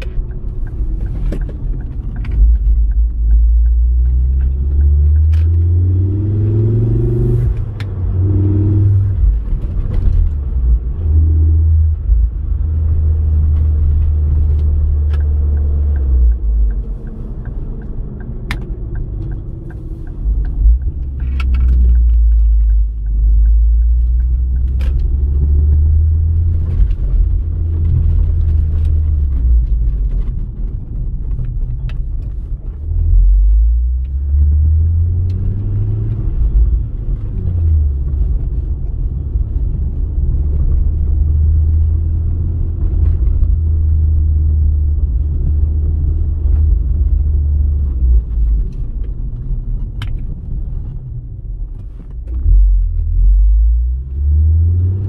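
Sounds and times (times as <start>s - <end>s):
car engine rumble: 0.0s - 55.0s
road noise: 0.0s - 55.0s.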